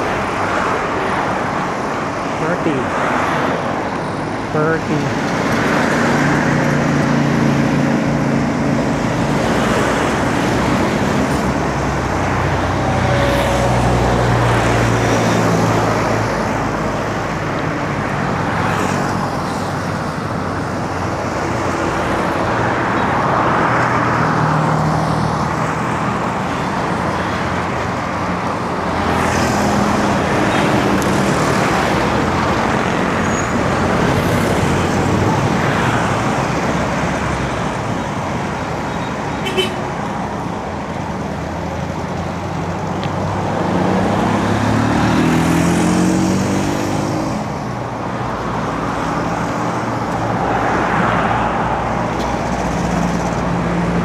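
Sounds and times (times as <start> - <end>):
road noise: 0.0 - 54.0
vehicles passing close by: 0.0 - 54.0.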